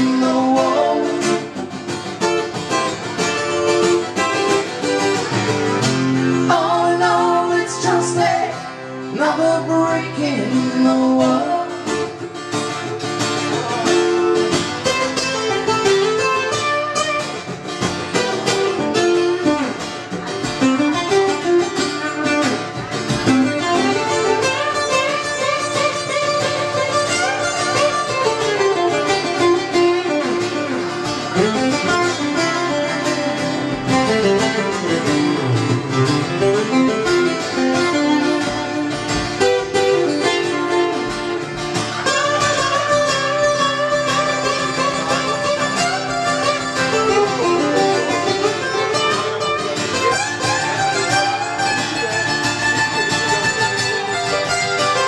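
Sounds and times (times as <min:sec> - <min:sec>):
acoustic guitars playing: 0:00.0 - 0:55.0.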